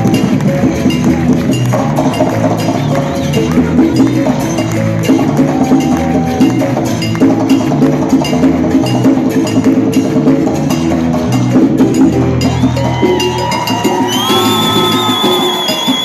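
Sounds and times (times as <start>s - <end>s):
live salsa band playing: 0.0s - 16.0s
percussion quick beat: 0.0s - 16.0s.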